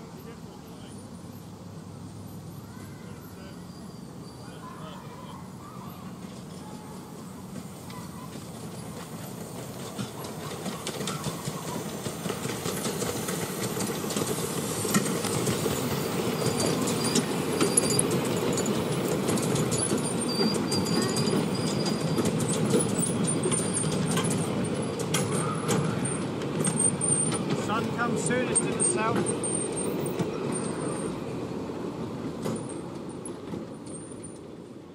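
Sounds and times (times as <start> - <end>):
train carriages rumbling: 0.0 - 34.9
wheels clicking over rail joints: 2.2 - 34.9.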